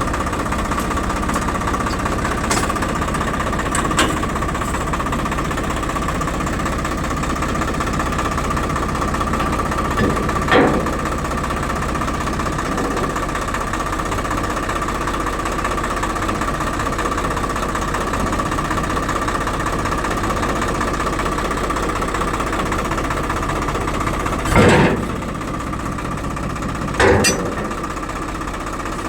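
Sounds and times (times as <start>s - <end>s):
diesel engine knocking: 0.0s - 29.0s
steady engine whine: 0.0s - 29.0s.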